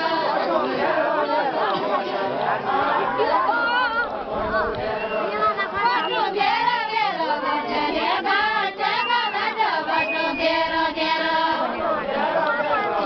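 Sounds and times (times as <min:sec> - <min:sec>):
women singing together: 0:00.0 - 0:13.0.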